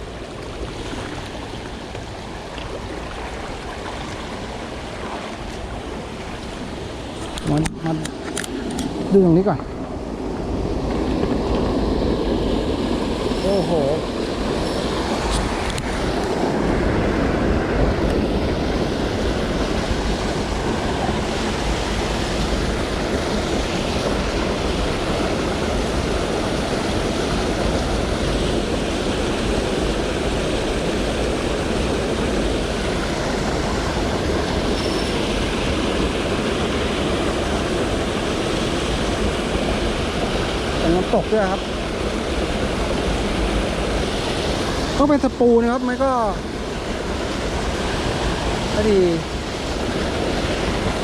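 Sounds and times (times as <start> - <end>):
water roaring over waterfall: 0.0 - 51.0.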